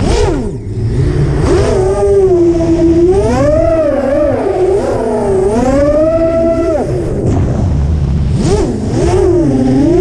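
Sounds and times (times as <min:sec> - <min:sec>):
drone motors whining: 0:00.0 - 0:10.0
wind rumble on microphone: 0:00.0 - 0:10.0.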